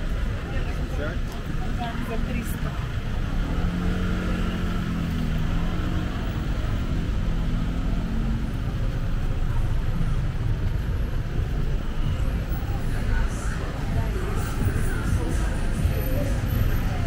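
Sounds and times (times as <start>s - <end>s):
traffic noise: 0.0s - 17.0s
vehicle engine humming: 0.0s - 17.0s.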